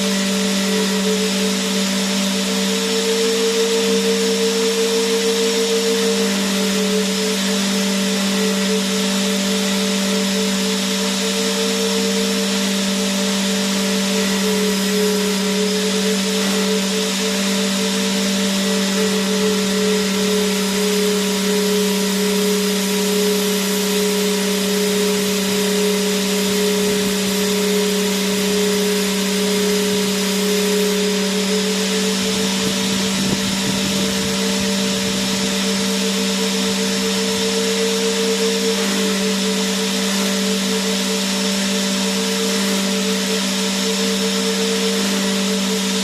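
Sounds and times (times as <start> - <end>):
vacuum cleaner motor whine: 0.0 - 46.0.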